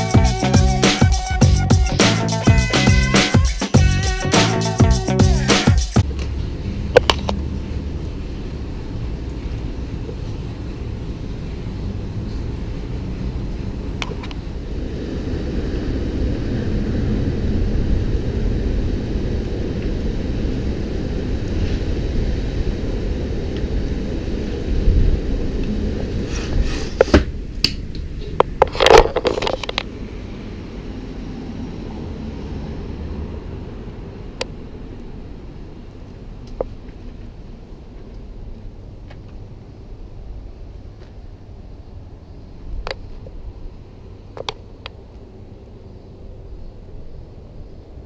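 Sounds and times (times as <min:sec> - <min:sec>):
wind buffeting microphone: 0:06.0 - 0:48.0.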